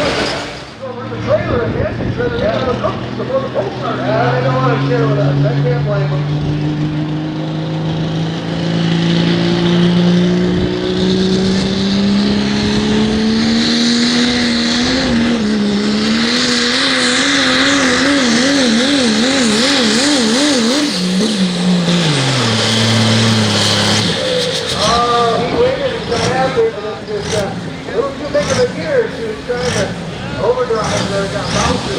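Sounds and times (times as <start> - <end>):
diesel truck engine at full power: 0.0 - 31.9.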